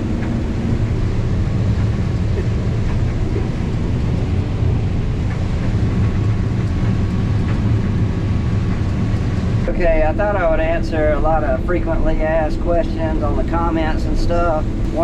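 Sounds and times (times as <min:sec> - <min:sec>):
combine harvester engine rumble: 0:00.0 - 0:15.0.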